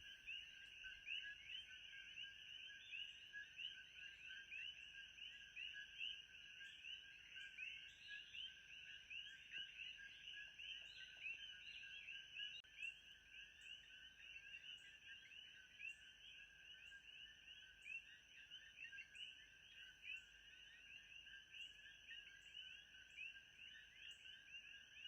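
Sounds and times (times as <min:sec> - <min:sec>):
frog-like chirping chorus: 0:00.0 - 0:25.0.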